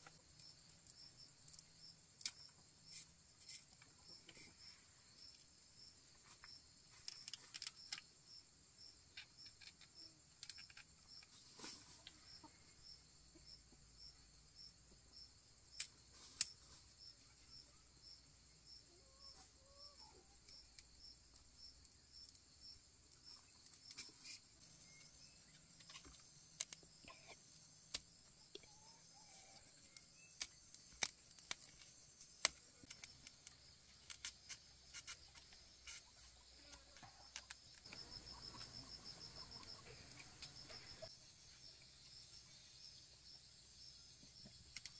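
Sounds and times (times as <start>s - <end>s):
insect chirping steadily: 0.0s - 44.9s.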